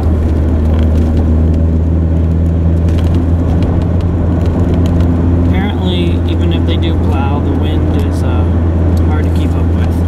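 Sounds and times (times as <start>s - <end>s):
pickup engine drone: 0.0s - 10.0s
road noise: 0.0s - 10.0s.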